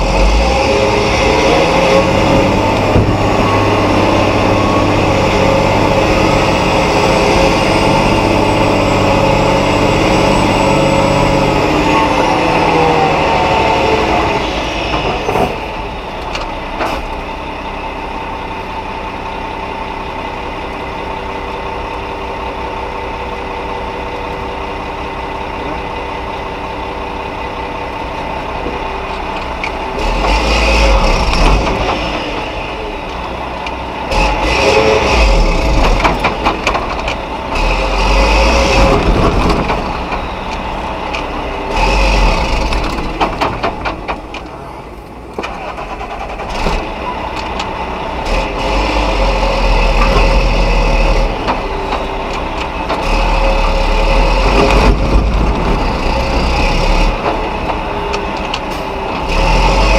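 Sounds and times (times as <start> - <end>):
diesel truck engine revving: 0.0 - 59.9.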